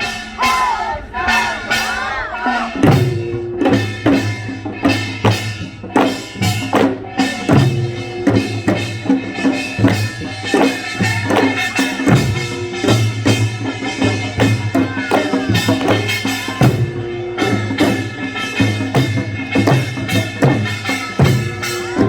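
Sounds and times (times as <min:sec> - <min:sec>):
folk percussion ensemble drumming: 0:00.0 - 0:22.0.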